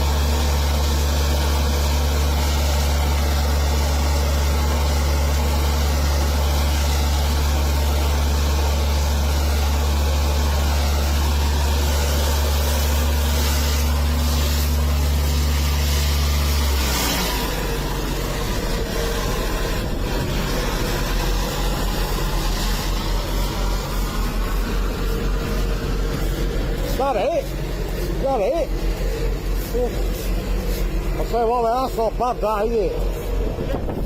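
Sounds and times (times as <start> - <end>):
engine humming and rumbling: 0.0 - 34.0.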